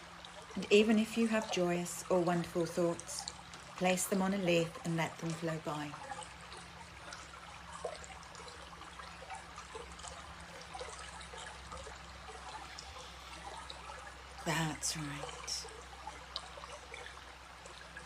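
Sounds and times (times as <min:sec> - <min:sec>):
low constant hum: 0:00.0 - 0:18.0
stream water trickling: 0:00.0 - 0:18.0.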